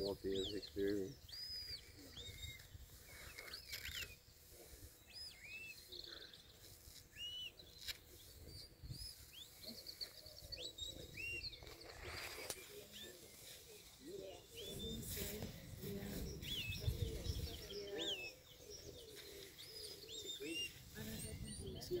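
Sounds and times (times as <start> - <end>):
songbirds chirping and whistling: 0.0 - 22.0.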